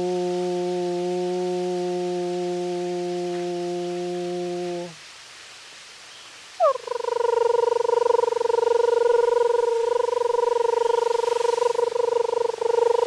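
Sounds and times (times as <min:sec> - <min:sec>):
woman singing high trilled tone: 0:00.0 - 0:05.0, 0:06.6 - 0:13.0.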